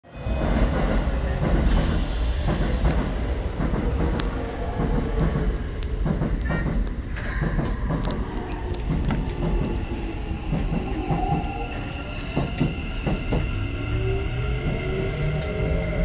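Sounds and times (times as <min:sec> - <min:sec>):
train wheels rumbling on rail: 0:00.1 - 0:16.0.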